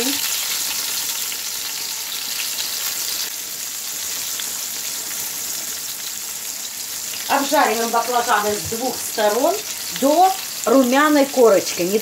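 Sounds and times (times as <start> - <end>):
eggplant frying in hot oil: 0.0 - 12.0.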